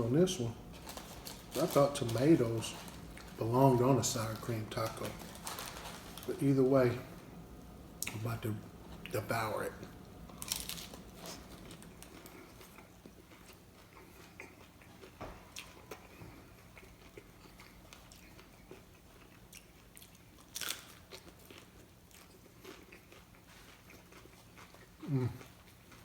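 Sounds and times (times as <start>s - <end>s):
person crunching and chewing food: 0.3s - 6.6s, 9.0s - 26.0s.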